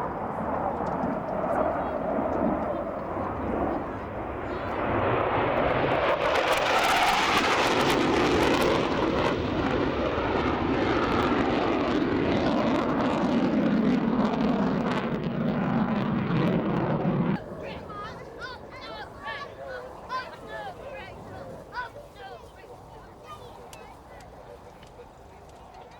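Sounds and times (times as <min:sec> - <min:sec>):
jet making low pass: 0:00.0 - 0:23.4.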